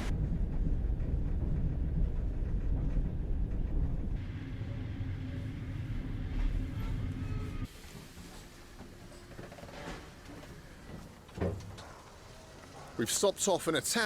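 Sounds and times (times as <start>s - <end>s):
train rumbling inside carriage: 0.0s - 14.0s.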